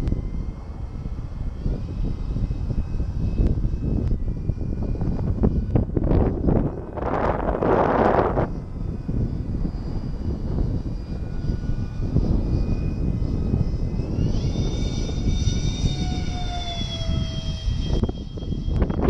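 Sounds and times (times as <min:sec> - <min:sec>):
model jet fans whining: 0:00.0 - 0:19.0
wind buffeting microphone: 0:00.0 - 0:19.0.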